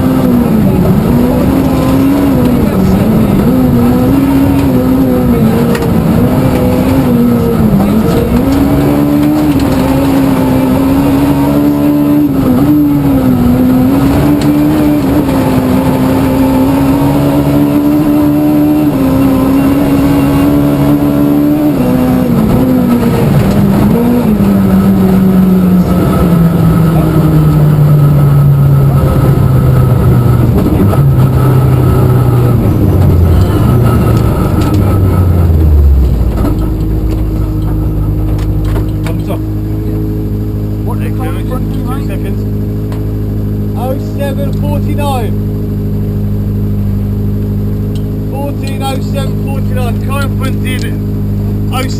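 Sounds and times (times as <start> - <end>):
rally car engine at high revs: 0.0 - 51.9.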